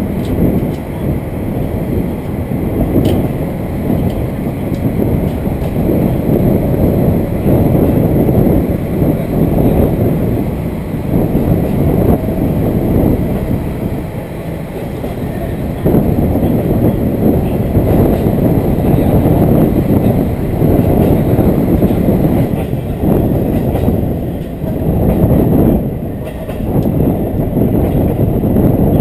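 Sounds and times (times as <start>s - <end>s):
railcar engine running: 0.0s - 29.0s
wheels rumbling on rail: 0.0s - 29.0s.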